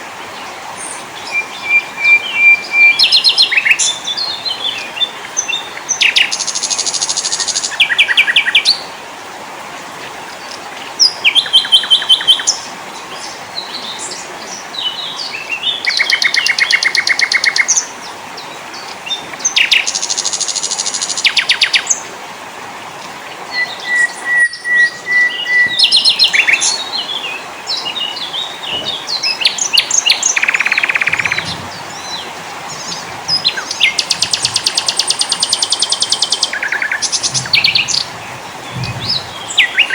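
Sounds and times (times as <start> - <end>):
songbirds chirping and trilling: 0.0 - 22.2, 22.8 - 39.9.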